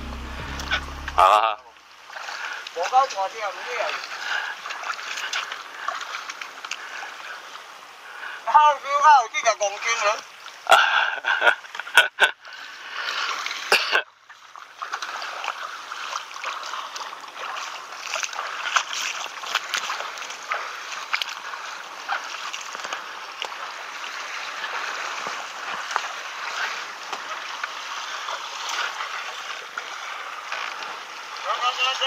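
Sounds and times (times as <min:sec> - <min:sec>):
seawater splashing around boots: 0:02.0 - 0:07.8, 0:11.3 - 0:32.0.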